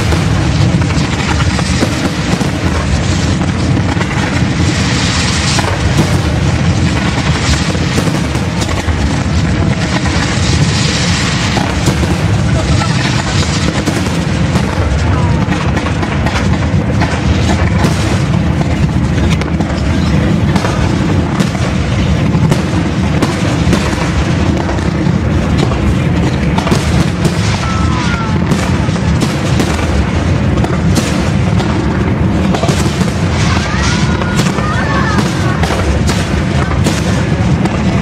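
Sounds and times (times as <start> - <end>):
fireworks bangs and reports: 0.0 - 38.0.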